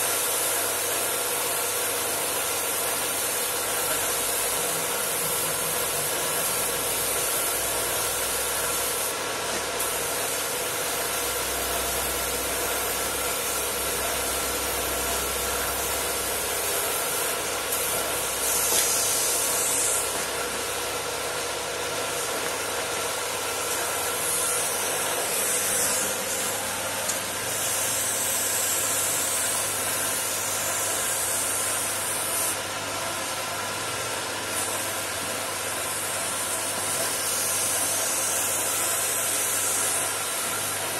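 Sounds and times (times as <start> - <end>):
paint spray gun hissing: 0.0 - 32.6, 35.5 - 40.9
steady machine hum: 0.0 - 40.9.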